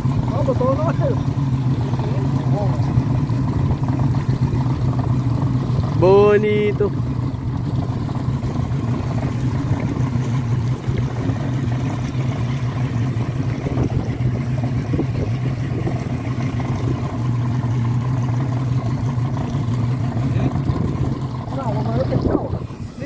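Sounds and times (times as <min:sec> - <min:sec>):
boat engine humming: 0:00.0 - 0:23.0
water washing: 0:00.0 - 0:23.0
wind: 0:00.0 - 0:23.0.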